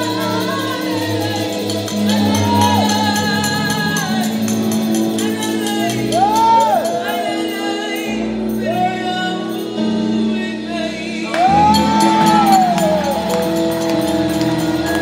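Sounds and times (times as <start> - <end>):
woman singing into a microphone: 0.0 - 13.3
sustained backing chords: 0.0 - 15.0.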